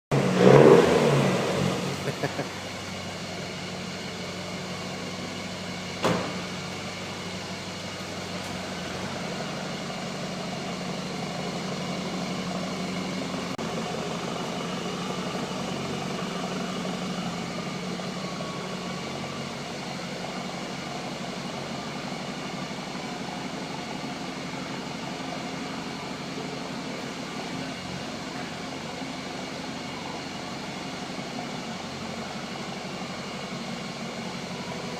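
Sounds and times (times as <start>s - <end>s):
pickup engine idling: 0.2s - 34.9s.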